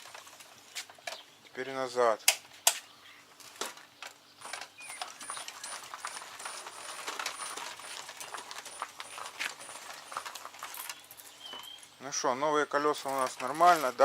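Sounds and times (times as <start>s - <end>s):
tyres crunching over ground: 2.4s - 14.0s.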